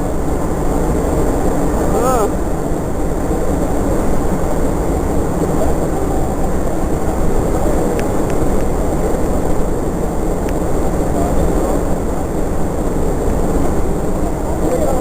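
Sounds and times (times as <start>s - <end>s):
waterfall rumbling: 0.0s - 15.0s.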